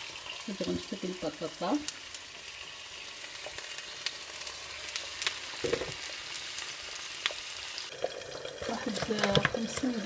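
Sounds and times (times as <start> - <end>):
potato slices frying in oil: 0.0 - 10.0.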